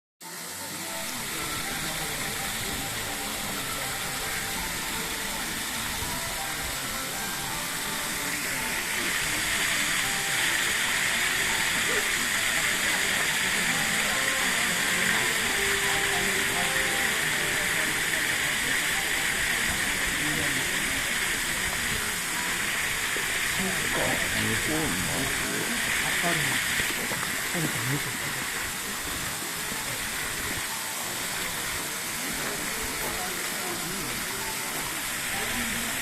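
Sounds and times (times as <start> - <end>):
faint voices: 0.2 - 36.0
waterfall splashing into pool: 0.2 - 36.0.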